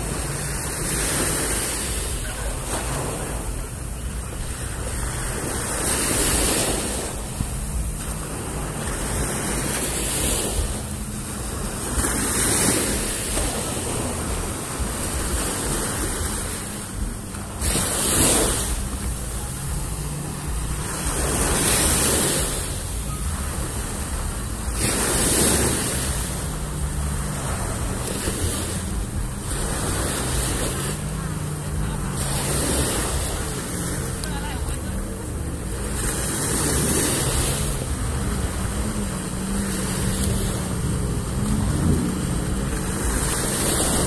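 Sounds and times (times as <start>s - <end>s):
outboard motor idling: 0.0s - 44.0s
small waves breaking on sand: 0.0s - 44.0s.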